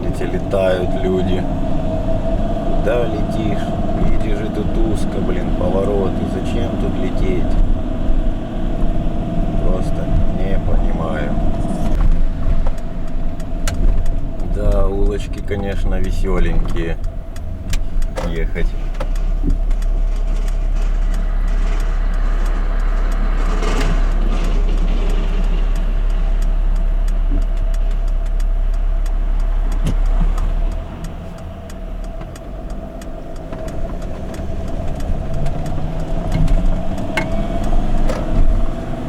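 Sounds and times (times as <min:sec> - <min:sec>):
steady whine: 0:00.0 - 0:39.0
van engine and road noise: 0:00.0 - 0:39.0.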